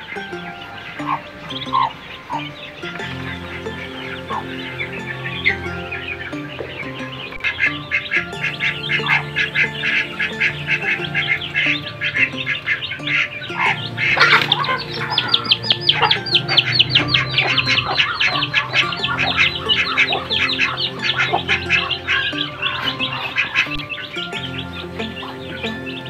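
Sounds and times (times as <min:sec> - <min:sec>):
background music: 0:00.0 - 0:26.0
ducklings peeping: 0:00.0 - 0:26.0.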